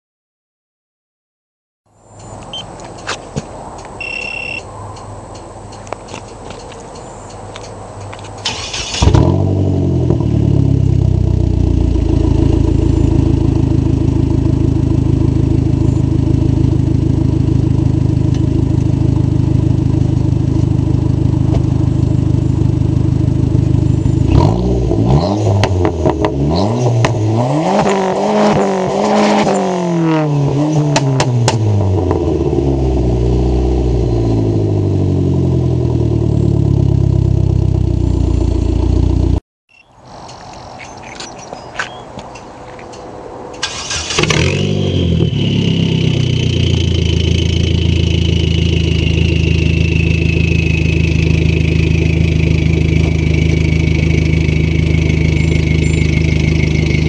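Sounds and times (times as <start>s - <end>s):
car engine idling and revving: 2.1s - 39.4s, 41.6s - 57.0s.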